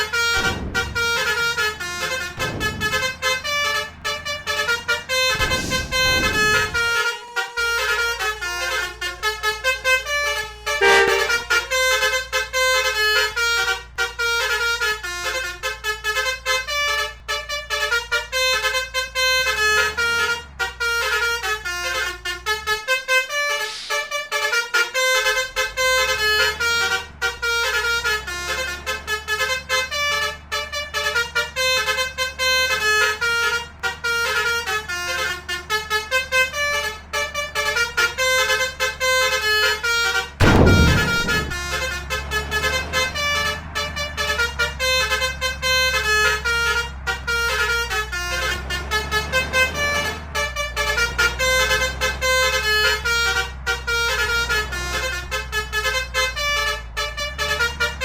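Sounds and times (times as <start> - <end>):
musical air horn melody: 0.0 - 58.0.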